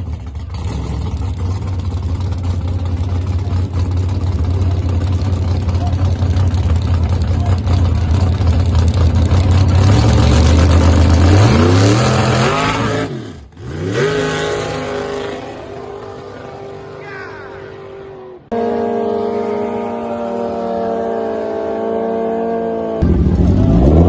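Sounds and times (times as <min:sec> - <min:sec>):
drag car engine revving: 0:00.0 - 0:24.0.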